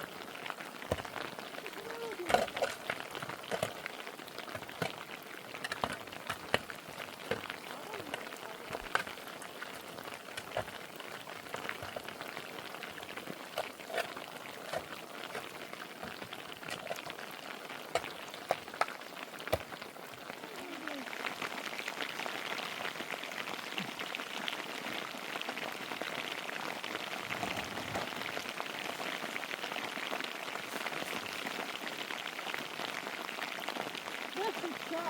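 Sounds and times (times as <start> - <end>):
raindrops ticking on surfaces: 0.0 - 35.0
steady rain: 0.0 - 35.0.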